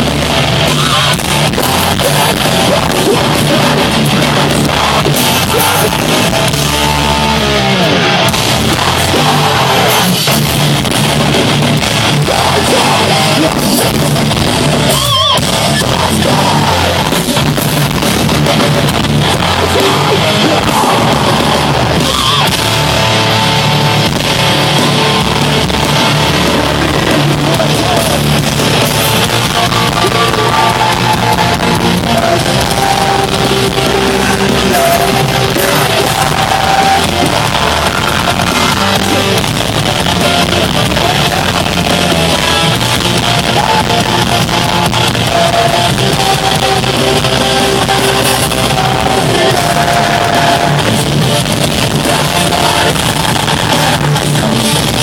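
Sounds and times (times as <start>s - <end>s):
person singing or yelling: 0.0s - 10.6s, 11.8s - 23.7s, 24.6s - 55.0s
distorted guitars: 0.0s - 55.0s
drums: 0.0s - 55.0s.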